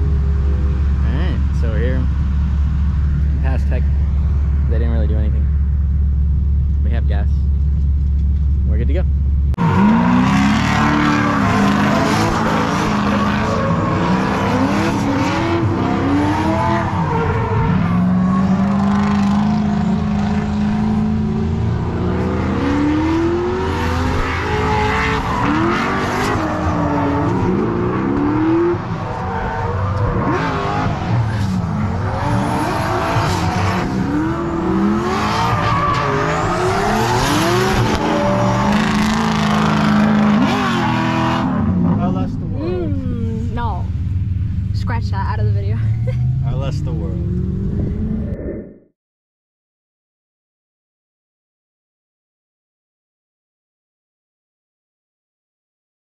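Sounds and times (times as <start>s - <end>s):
car engines revving: 0.0s - 48.7s.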